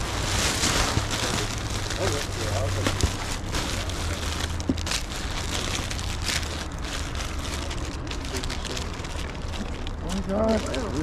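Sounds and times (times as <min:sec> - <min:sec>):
low steady rumble: 0:00.0 - 0:11.0
plastic bags rustling: 0:00.0 - 0:11.0.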